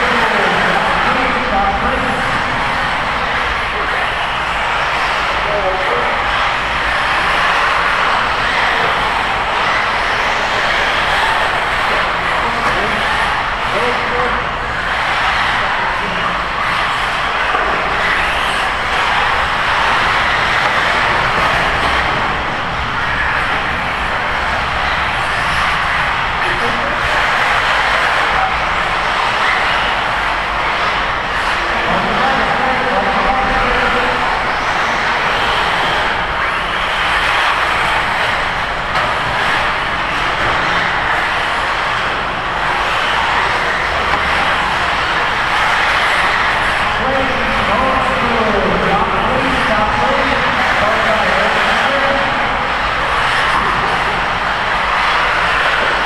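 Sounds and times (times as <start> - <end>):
radio-controlled cars racing: 0.0 - 56.0
rc buggy motors buzzing: 0.0 - 56.0.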